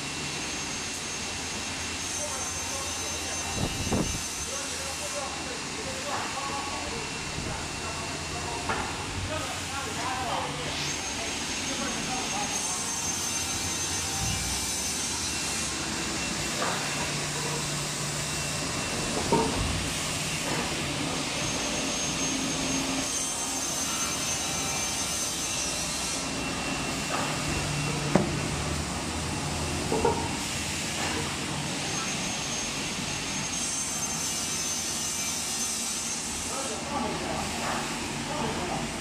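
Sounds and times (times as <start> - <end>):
beam saw running: 0.0 - 39.0.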